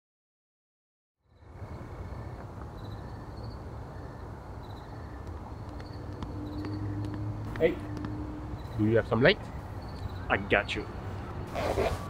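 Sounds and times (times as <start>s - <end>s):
distant traffic rumble: 1.3s - 12.0s.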